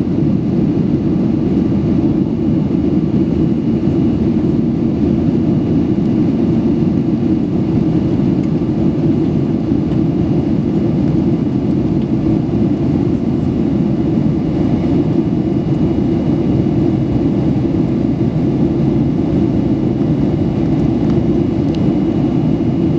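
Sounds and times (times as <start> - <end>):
jet engines rumbling: 0.0 - 22.9
rushing airflow: 0.0 - 22.9.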